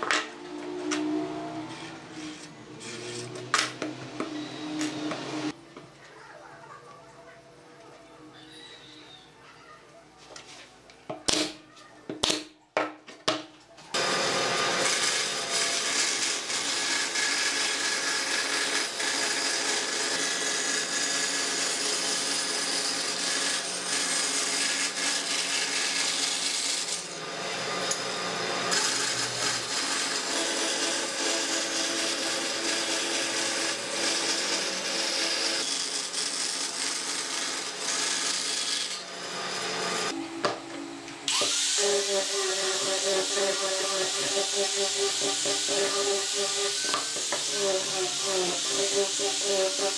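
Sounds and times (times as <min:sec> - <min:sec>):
band saw cutting wood: 0:00.0 - 0:05.6, 0:14.0 - 0:40.2, 0:41.2 - 0:49.9.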